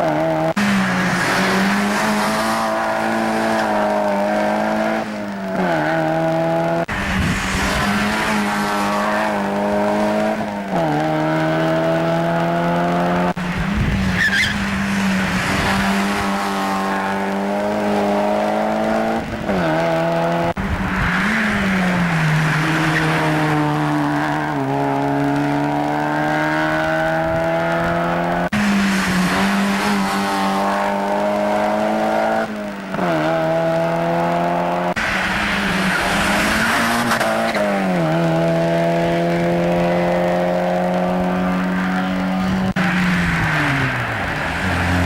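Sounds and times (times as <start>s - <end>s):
race car engines at high revs: 0.0s - 45.0s.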